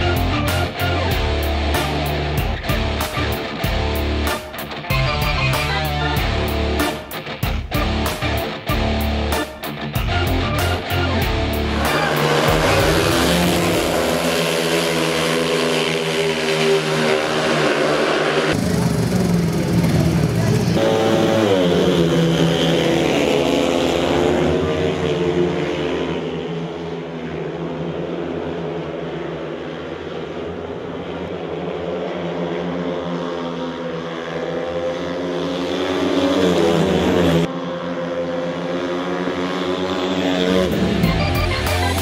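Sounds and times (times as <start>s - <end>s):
racing motorcycle engines revving: 0.0s - 42.0s.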